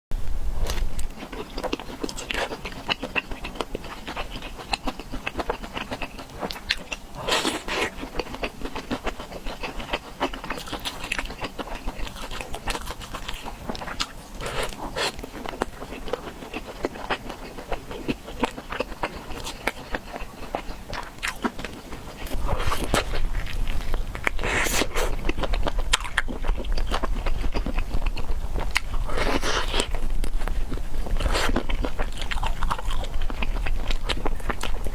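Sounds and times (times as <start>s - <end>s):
chewing and mouth clicks: 0.6s - 34.9s.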